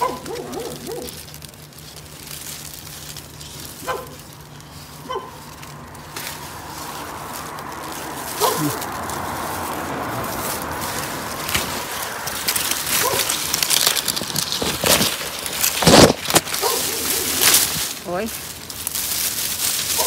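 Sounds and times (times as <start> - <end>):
brush rustling and crackling: 0.0 - 20.0.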